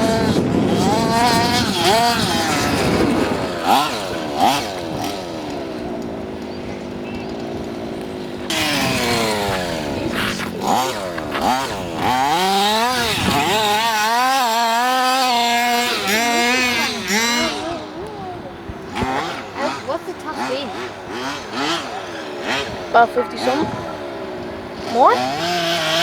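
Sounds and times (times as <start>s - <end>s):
rc car engine revving: 0.0s - 26.0s.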